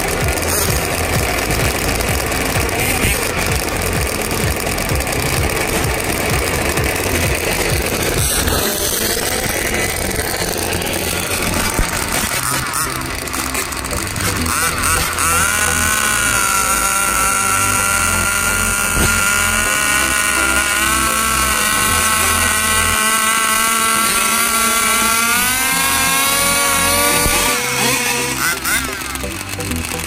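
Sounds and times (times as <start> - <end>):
background music with low beat: 0.0 - 30.0
rc car motor whining: 0.0 - 30.0.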